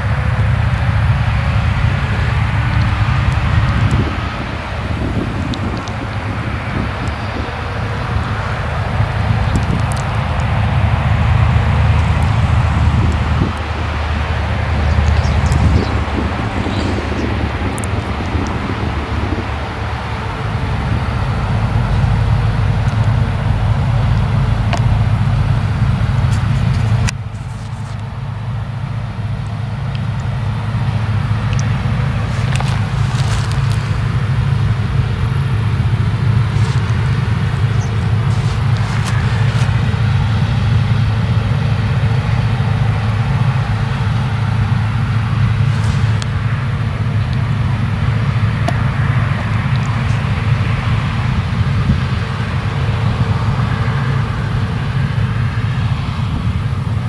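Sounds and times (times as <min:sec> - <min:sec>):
combine harvesters drone: 0:00.0 - 0:57.0.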